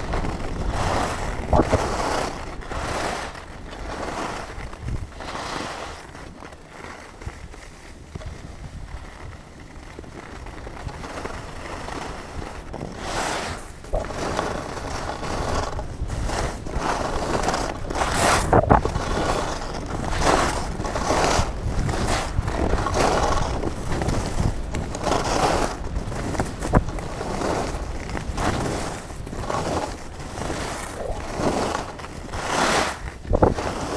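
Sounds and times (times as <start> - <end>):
skis carving over snow: 0.0 - 33.9
wind rumble on microphone: 0.0 - 33.9.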